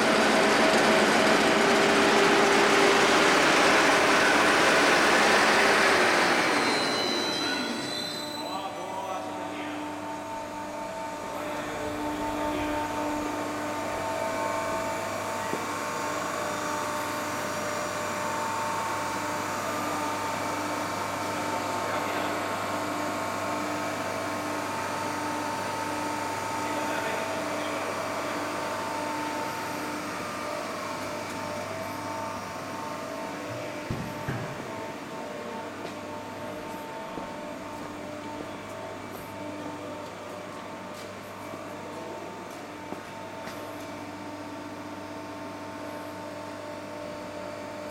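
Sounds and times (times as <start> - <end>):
broad machine noise: 0.0 - 47.9
motor hum with held tones: 9.2 - 47.9.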